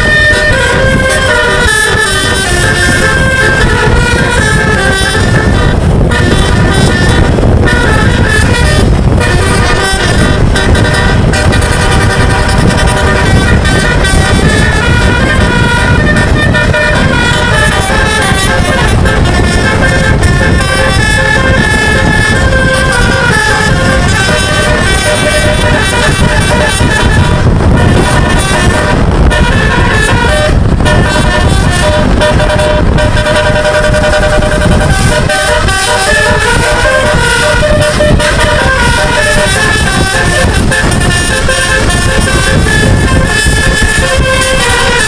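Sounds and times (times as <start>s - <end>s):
multi-tone musical air horn: 0.0s - 45.0s
steady low rumble: 0.0s - 45.0s.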